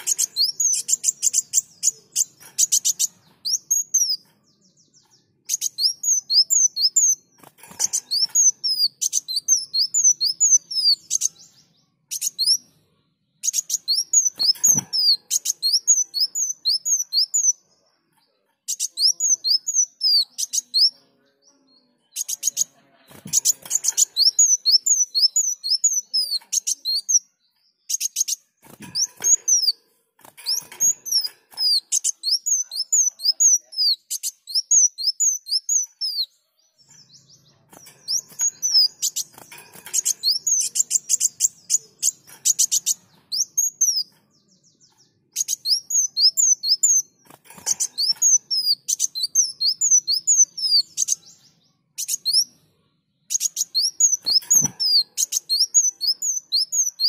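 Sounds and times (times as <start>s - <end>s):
sunbird singing high chirps: 0.0s - 29.8s, 30.4s - 52.6s, 53.2s - 57.0s.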